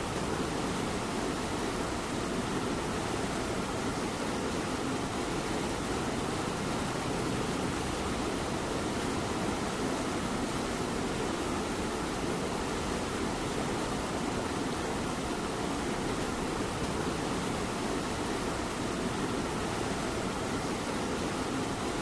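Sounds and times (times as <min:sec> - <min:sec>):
light rain hiss: 0:00.0 - 0:22.0.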